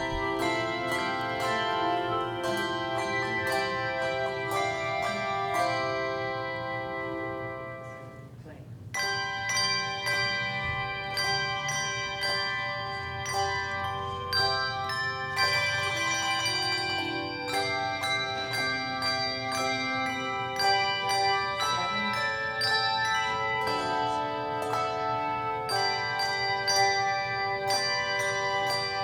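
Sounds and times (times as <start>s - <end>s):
handbells ringing a melody: 0.0s - 29.0s.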